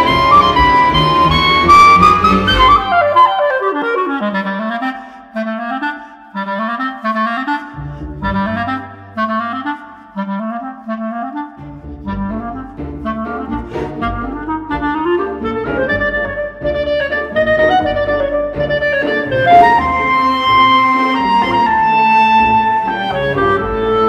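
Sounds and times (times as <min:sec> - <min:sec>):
low accompaniment: 0:00.0 - 0:03.4, 0:07.8 - 0:24.0
clarinet fast rising runs: 0:00.0 - 0:05.9, 0:08.2 - 0:24.0.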